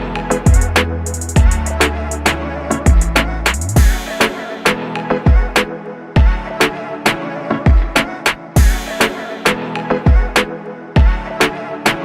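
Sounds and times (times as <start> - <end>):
hip hop beat: 0.0 - 12.0
person rapping: 0.0 - 12.0.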